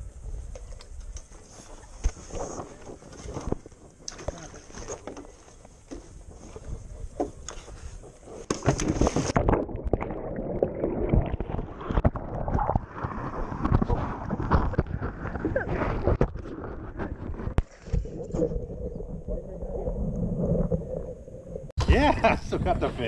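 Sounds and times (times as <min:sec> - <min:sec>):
muffled churning water: 0:00.0 - 0:23.0.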